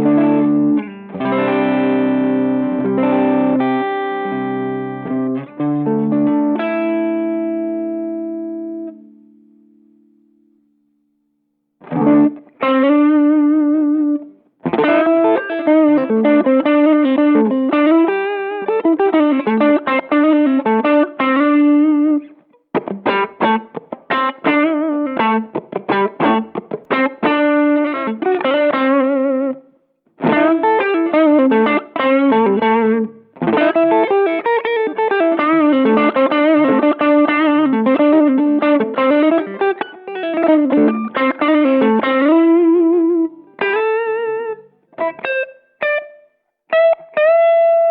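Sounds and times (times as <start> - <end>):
overdriven electric guitar lead: 0.0 - 10.6, 11.8 - 47.9.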